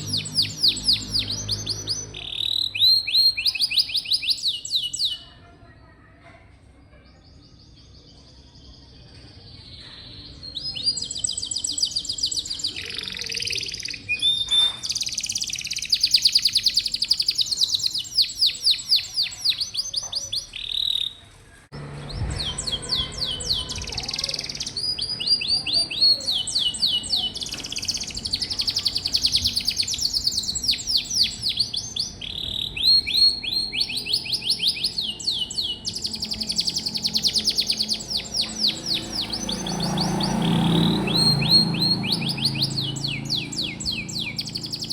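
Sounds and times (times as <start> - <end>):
canary trilling: 0.0 - 5.4, 10.0 - 21.2, 21.8 - 44.9.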